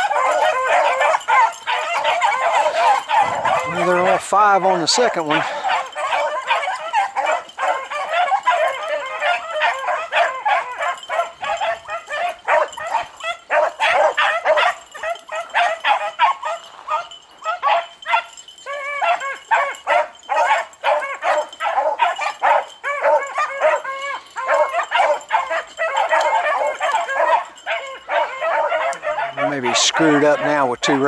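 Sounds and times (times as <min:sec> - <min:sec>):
pack of hounds baying: 0:00.0 - 0:31.0.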